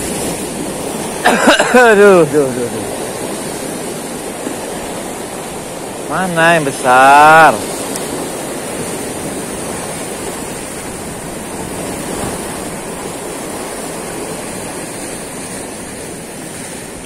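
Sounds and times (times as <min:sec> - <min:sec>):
waves breaking over rocks: 0:00.0 - 0:17.0.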